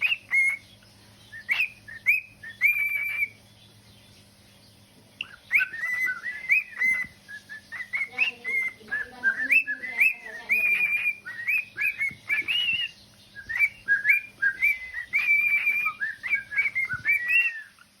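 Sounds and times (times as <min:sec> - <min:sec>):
cockatiel whistling: 0:00.0 - 0:00.7, 0:01.3 - 0:03.4, 0:05.2 - 0:18.0.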